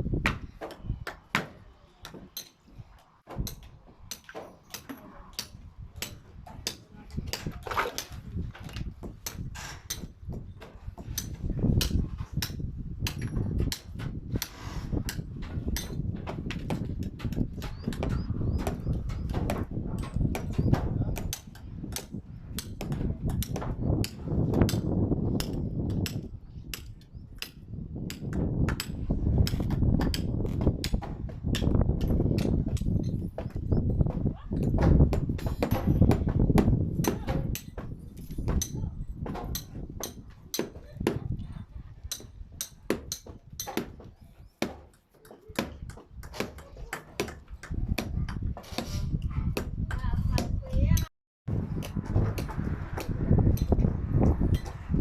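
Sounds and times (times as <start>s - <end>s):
hammers knocking on timber: 3.3s - 41.4s, 42.1s - 51.1s, 51.8s - 54.8s.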